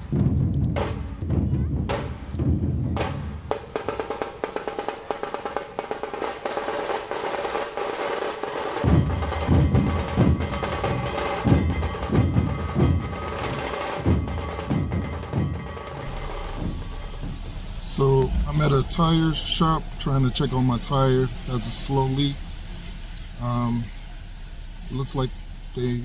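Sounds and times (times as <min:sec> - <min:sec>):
quick drum pattern: 0:00.0 - 0:22.6
heavy low drum beats: 0:00.0 - 0:26.0.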